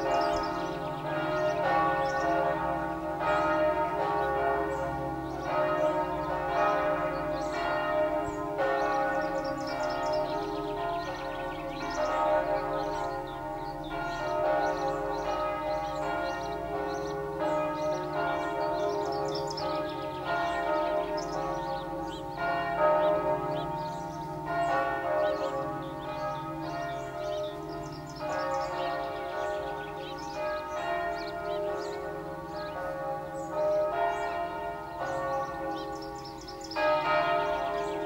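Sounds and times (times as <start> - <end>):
church bells pealing: 0.0 - 38.0.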